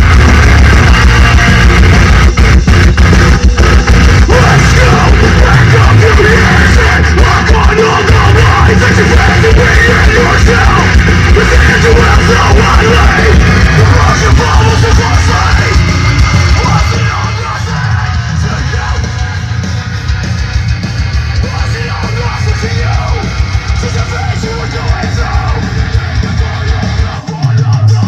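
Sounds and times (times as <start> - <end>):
loud distorted music with heavy bass: 0.0 - 28.0.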